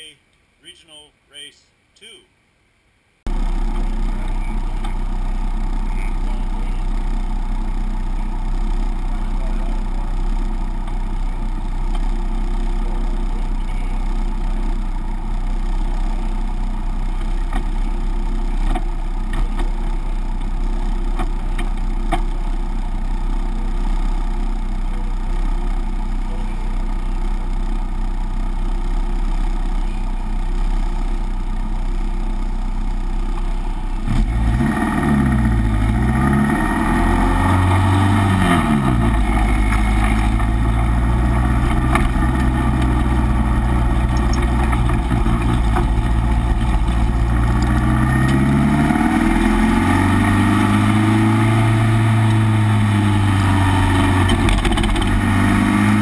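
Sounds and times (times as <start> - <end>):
car engine idling: 3.1 - 56.0.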